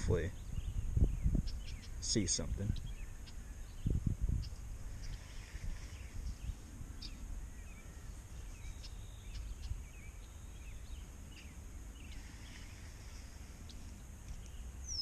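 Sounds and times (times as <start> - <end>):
birds chirping: 0.0 - 15.0
high outdoor hiss: 0.0 - 15.0
wind rumble on microphone: 0.0 - 15.0.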